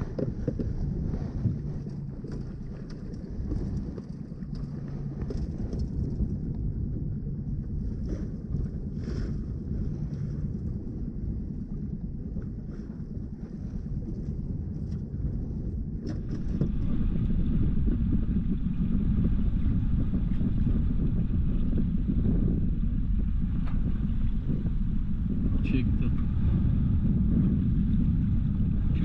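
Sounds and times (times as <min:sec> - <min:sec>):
boat motor running: 0:00.0 - 0:29.0
wind rumbling on microphone: 0:00.0 - 0:29.0.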